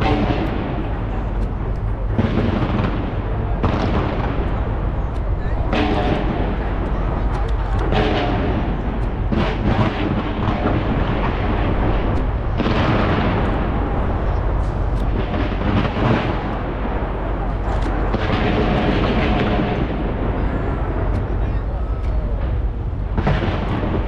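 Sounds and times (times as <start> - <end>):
fireworks booming and crackling: 0.0 - 24.0
low rumble: 0.0 - 24.0.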